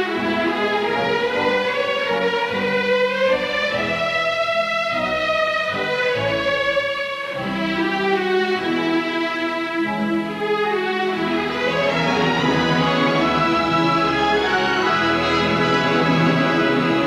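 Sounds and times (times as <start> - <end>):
orchestral strings holding long notes: 0.0 - 17.0.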